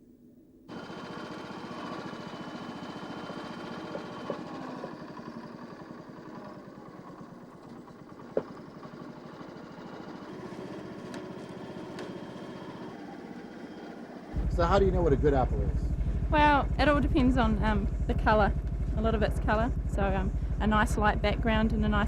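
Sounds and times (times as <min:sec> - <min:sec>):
small engine running: 0:00.7 - 0:22.0.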